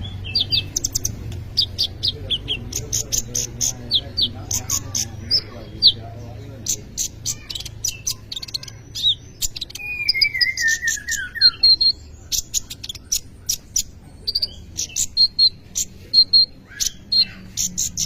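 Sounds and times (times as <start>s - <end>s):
sunbird singing varied song: 0.0s - 18.0s.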